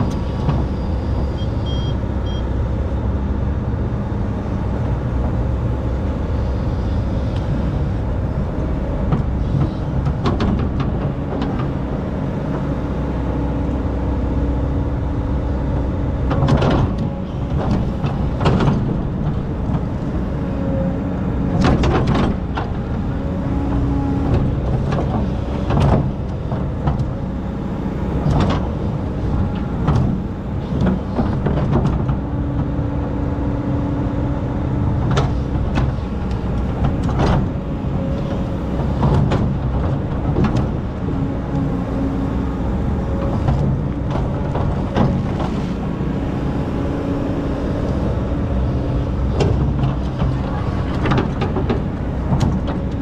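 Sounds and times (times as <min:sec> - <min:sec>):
excavator diesel engine running: 0:00.0 - 0:53.0
hydraulics humming: 0:00.0 - 0:53.0.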